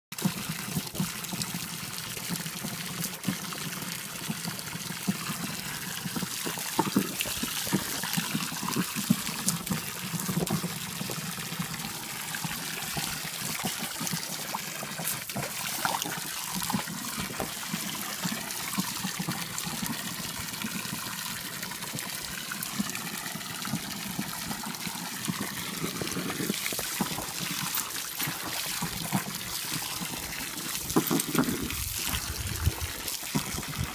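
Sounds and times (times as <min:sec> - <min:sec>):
water stream splashing into pool: 0:00.1 - 0:33.9.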